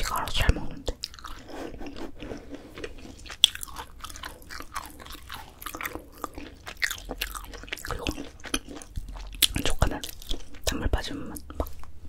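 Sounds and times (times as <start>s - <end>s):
dry crunchy chewing: 0.0s - 12.0s.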